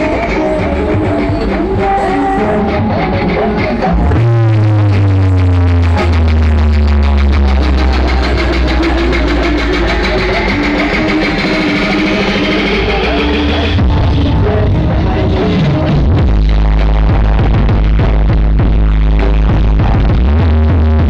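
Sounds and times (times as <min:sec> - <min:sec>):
loud music with heavy bass: 0:00.0 - 0:21.0.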